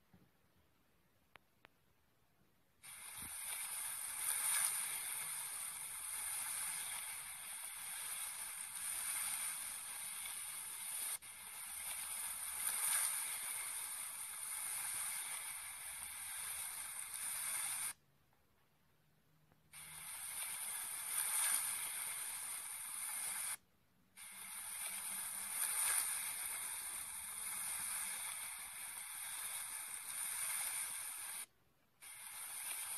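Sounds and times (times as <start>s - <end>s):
steady hissing: 2.8s - 18.0s, 19.7s - 32.9s.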